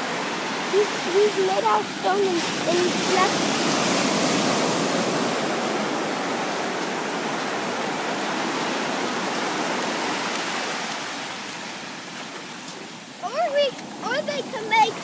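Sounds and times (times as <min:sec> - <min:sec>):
ocean surf washing on shore: 0:00.0 - 0:15.0.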